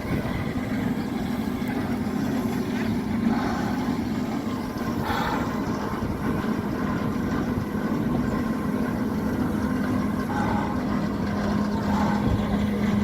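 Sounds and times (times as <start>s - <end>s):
locomotive running: 0.0s - 13.0s.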